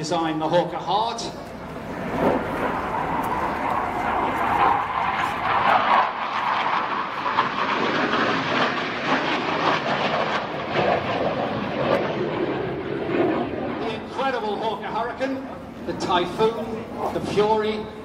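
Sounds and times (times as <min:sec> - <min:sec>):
jet flying overhead: 0:00.0 - 0:18.0.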